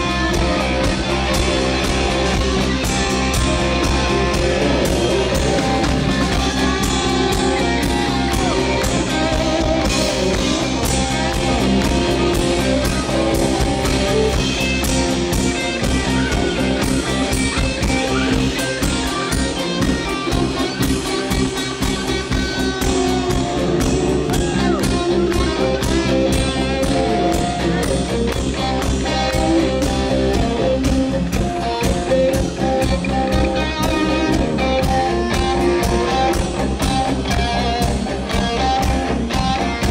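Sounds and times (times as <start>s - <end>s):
bass guitar: 0.0s - 39.9s
drum kit beat: 0.0s - 39.9s
electric guitars: 0.0s - 39.9s.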